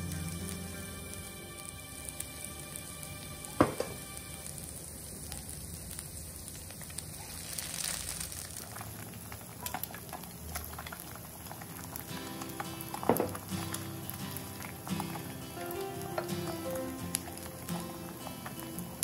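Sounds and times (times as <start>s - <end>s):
eggs spitting in hot oil: 0.0s - 19.0s
oil sizzling in frying pan: 0.0s - 19.0s.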